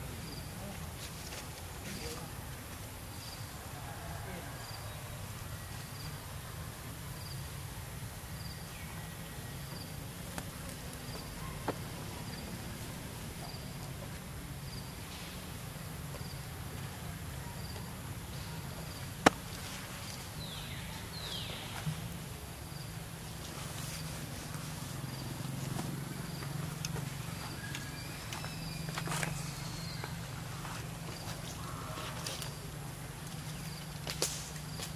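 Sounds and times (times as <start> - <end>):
insect chirping faintly: 0.0 - 34.9.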